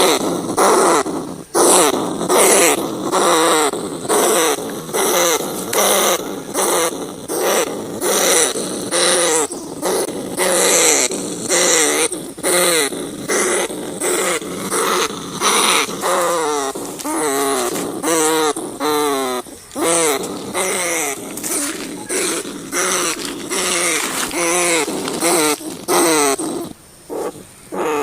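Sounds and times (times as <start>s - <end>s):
rat squealing cries: 0.0s - 28.0s.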